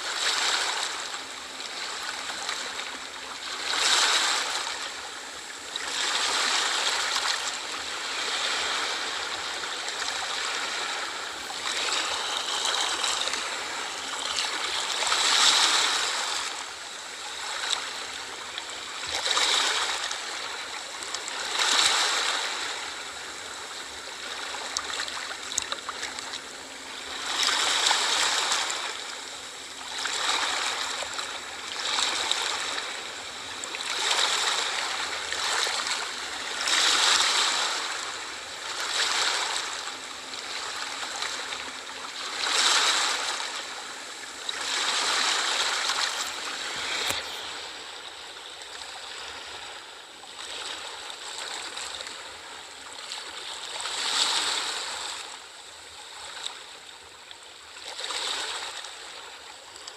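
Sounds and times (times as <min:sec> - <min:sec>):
sea waves breaking: 0:00.0 - 0:55.4, 0:57.8 - 0:59.9.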